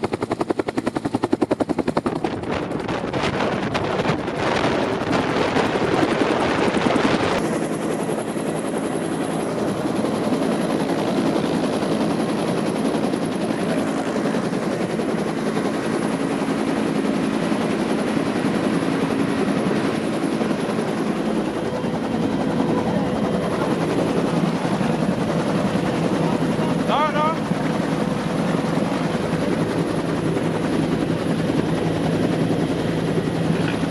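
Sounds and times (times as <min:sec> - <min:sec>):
helicopter rotor chop: 0:00.0 - 0:33.9
high turbine whine: 0:00.0 - 0:33.9.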